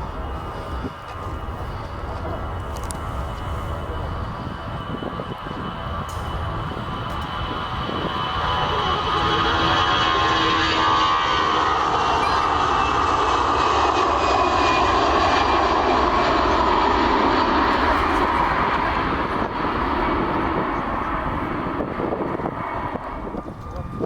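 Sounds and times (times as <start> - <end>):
airliner engines passing: 0.0 - 24.0.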